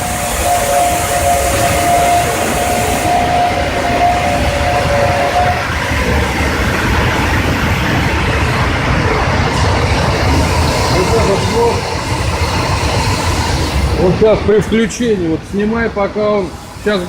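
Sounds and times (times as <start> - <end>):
air hiss: 0.0 - 8.7, 9.4 - 17.0
machinery rumble: 0.0 - 17.0.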